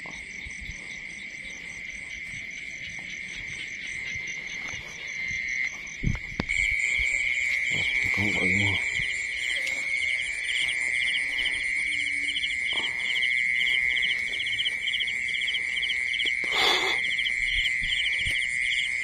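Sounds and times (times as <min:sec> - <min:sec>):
high-pitched insect drone: 0:00.0 - 0:19.0
pulsed frog call: 0:01.4 - 0:19.0.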